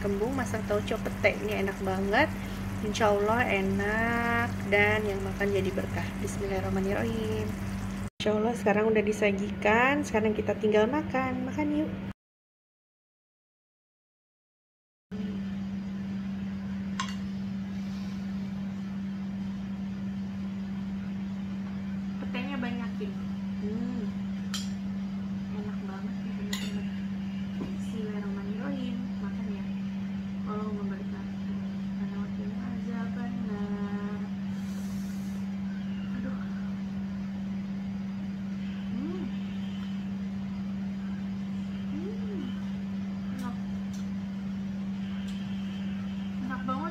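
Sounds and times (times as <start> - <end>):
low hum: 0.0 - 8.1, 15.1 - 46.9.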